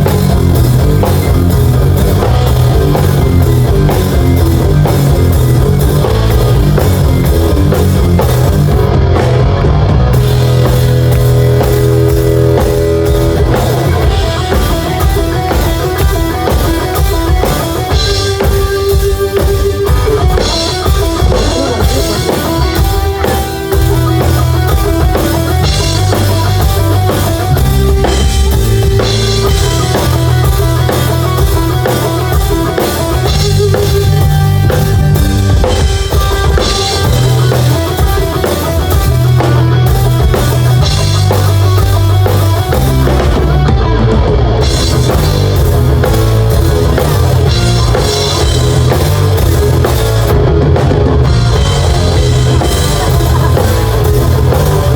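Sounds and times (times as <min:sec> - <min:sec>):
bass line: 0:00.0 - 0:54.9
drum kit: 0:00.0 - 0:54.9
guitar: 0:00.0 - 0:54.9.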